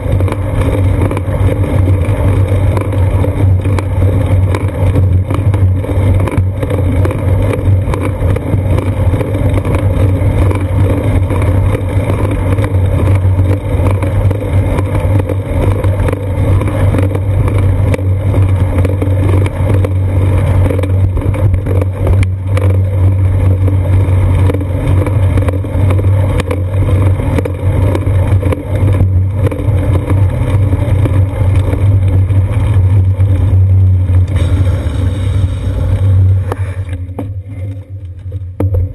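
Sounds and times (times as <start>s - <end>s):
bicycle road vibration: 0.0s - 38.9s
constant low drone: 0.0s - 38.9s
wind rumble: 0.0s - 38.9s.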